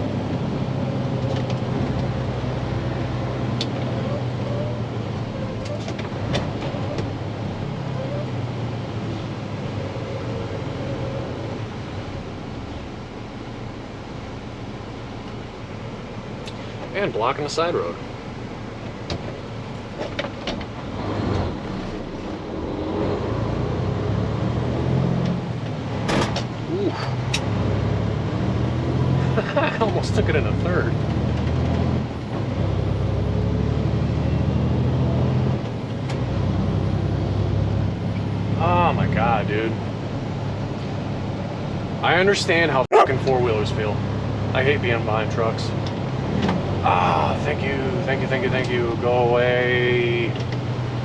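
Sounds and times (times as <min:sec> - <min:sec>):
diesel truck engine hum: 0:00.0 - 0:51.0
road noise inside cab: 0:00.0 - 0:51.0.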